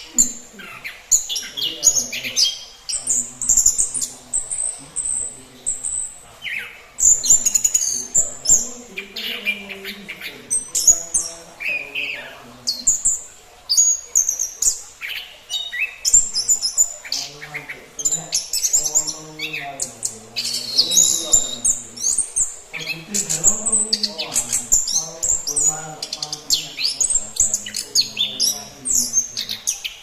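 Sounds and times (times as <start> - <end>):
thrush singing: 0.0 - 30.0.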